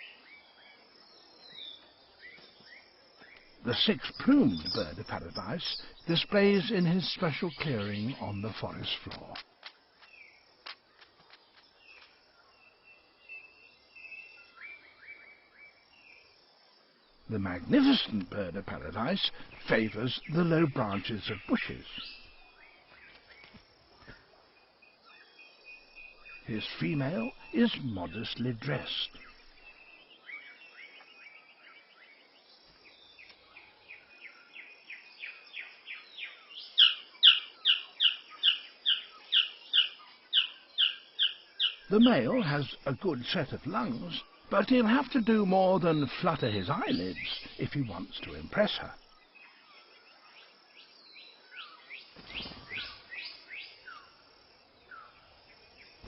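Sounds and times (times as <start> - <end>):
bird calls: 0.0 - 56.0
faint rainforest ambience: 0.0 - 56.0.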